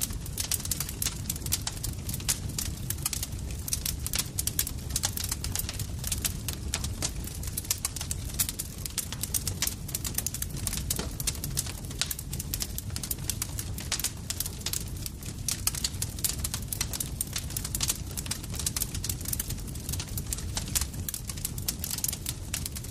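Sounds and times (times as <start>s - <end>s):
campfire crackling: 0.0s - 22.9s
low rumble of flames: 0.0s - 22.9s.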